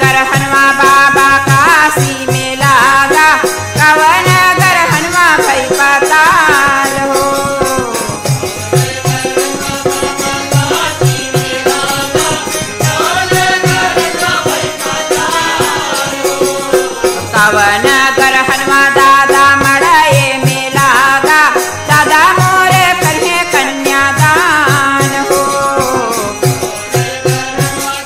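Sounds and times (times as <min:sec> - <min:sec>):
steady drum beat: 0:01.2 - 0:28.0.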